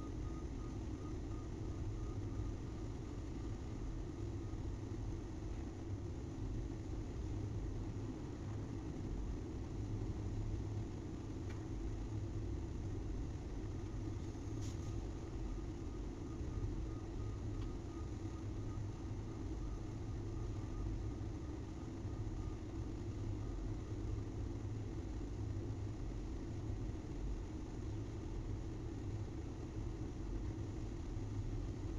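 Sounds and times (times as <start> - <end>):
faint high whine: 0.0 - 31.9.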